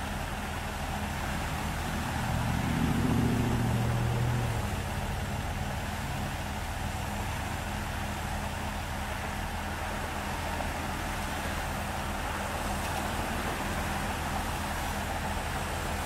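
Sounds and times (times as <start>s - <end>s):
heavy diesel engines droning: 0.0s - 16.0s.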